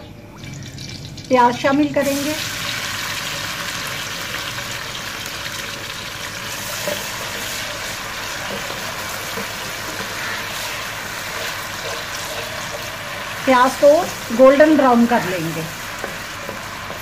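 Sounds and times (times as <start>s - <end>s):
onions sizzling in hot oil: 0.4s - 17.0s.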